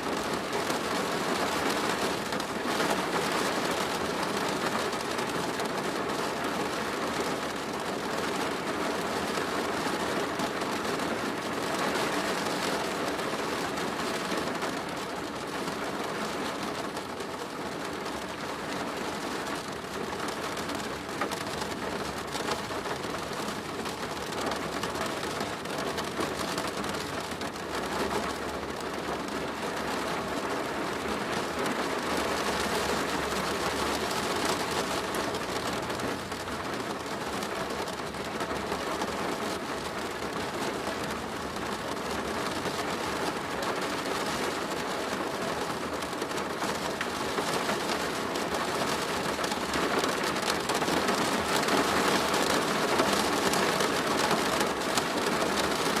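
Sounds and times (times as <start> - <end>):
rain drumming on plastic roof: 0.0 - 56.0.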